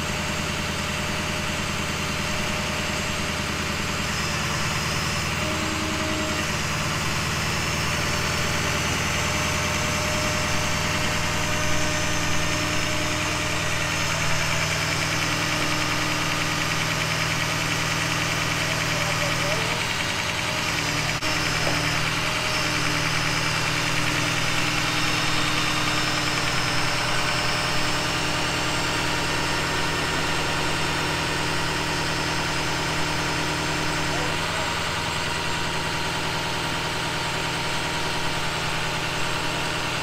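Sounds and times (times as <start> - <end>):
truck engine idling: 0.0 - 40.0.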